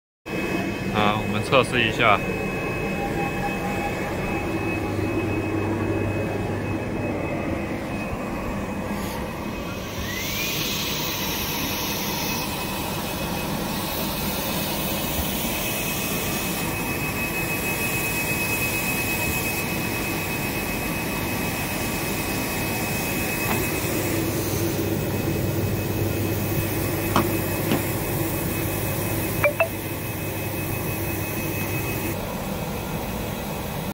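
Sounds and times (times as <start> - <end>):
printer mechanical whir: 0.4 - 29.4
thin high whine: 0.4 - 32.2.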